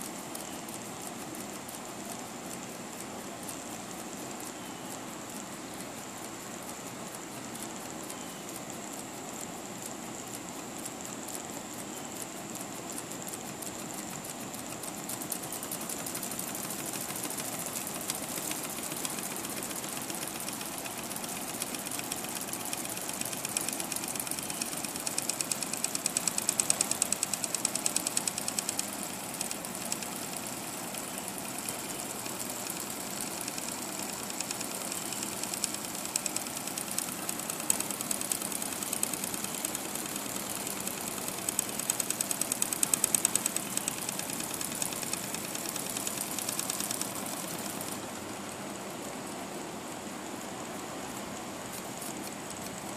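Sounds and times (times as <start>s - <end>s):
toy steam engine clattering: 0.0s - 48.0s.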